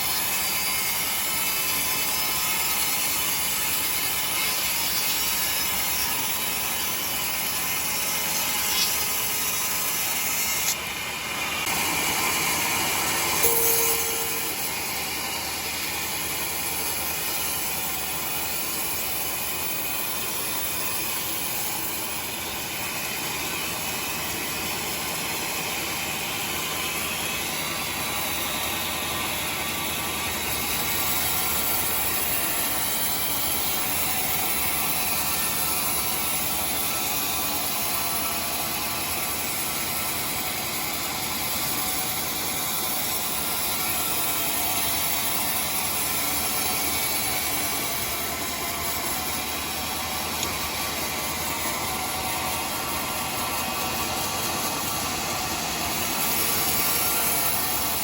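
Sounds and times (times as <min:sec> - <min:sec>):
saw blade cutting wood: 0:00.0 - 0:58.0.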